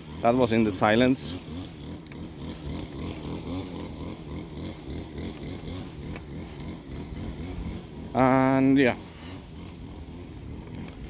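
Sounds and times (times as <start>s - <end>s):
petrol power tool engine running: 0.0s - 11.0s.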